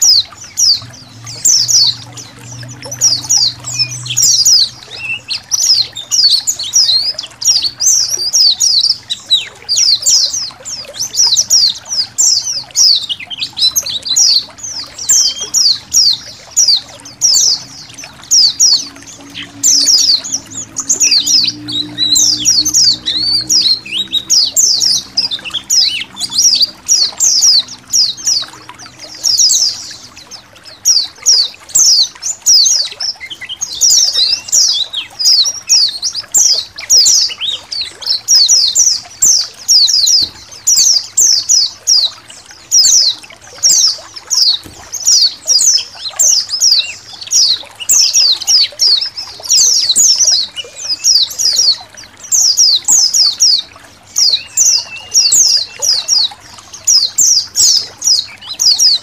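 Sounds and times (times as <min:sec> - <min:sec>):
faint trickle of running water: 0:00.0 - 0:59.0
flock of birds twittering: 0:00.0 - 0:59.0.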